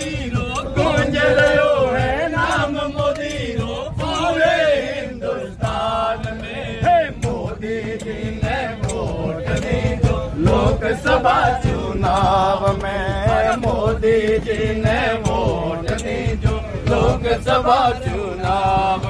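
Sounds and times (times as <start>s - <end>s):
hand claps: 0.0s - 19.0s
men singing in chorus: 0.0s - 19.0s.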